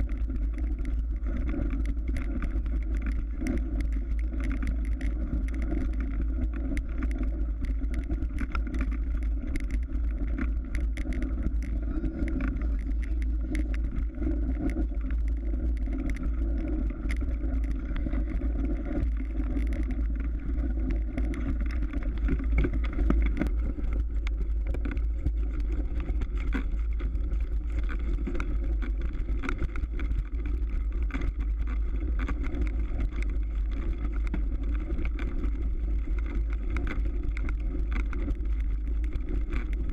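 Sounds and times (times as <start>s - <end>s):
bike rolling over snow and ice: 0.0s - 39.9s
small rattling clicks: 0.0s - 39.9s.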